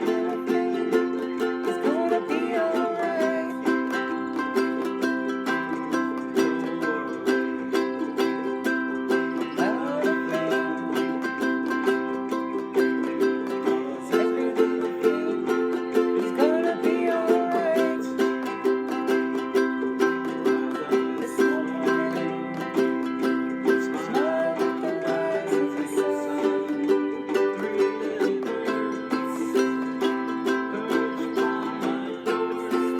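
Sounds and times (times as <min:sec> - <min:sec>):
ukulele strumming: 0:00.0 - 0:32.9.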